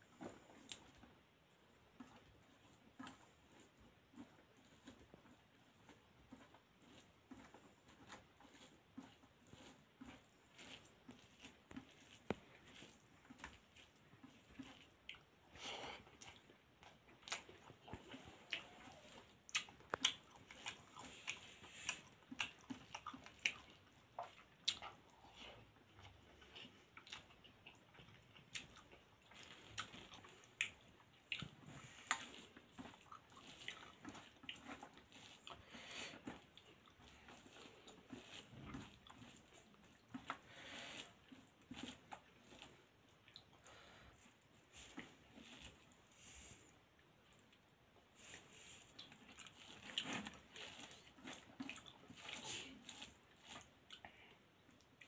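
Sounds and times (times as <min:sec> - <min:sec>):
chewing: 0:00.0 - 0:55.0
food mixed by hand on plate: 0:00.1 - 0:55.0.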